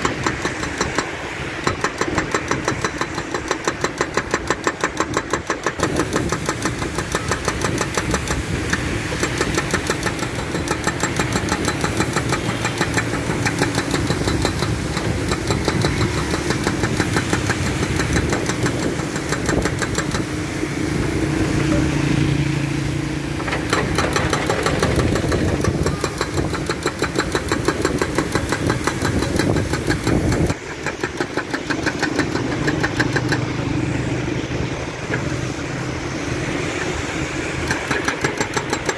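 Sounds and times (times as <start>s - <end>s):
hydraulic breaker hammer pounding: 0.0s - 20.4s, 23.2s - 35.6s, 36.5s - 38.9s
diesel engine running: 0.0s - 38.9s.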